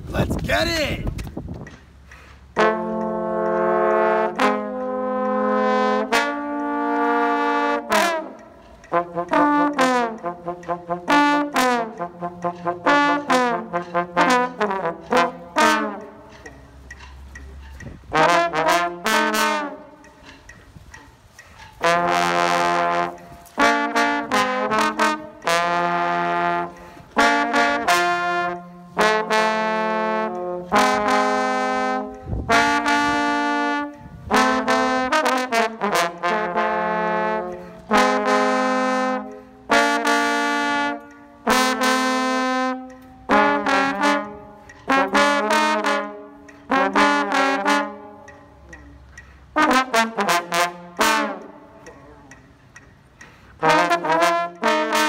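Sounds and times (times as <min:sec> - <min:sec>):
solo brass instrument: 0:02.5 - 0:16.4, 0:18.1 - 0:20.4, 0:21.8 - 0:48.4, 0:49.5 - 0:52.0, 0:53.6 - 0:55.0.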